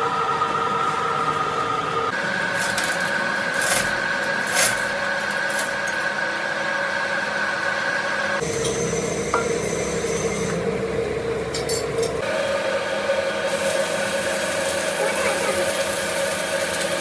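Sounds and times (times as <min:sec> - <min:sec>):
lathe whine: 0:00.0 - 0:15.1.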